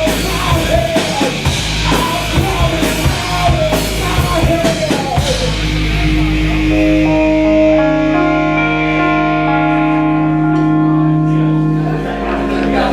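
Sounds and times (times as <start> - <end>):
drums: 0.0 - 12.9
electric guitars ringing: 0.0 - 12.9.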